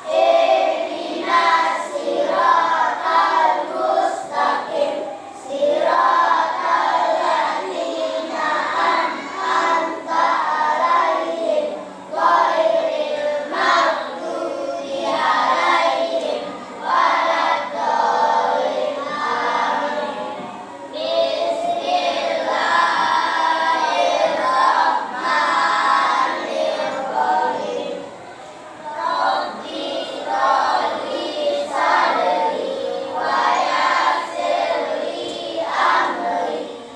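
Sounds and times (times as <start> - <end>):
group of voices singing: 0.0 - 36.9.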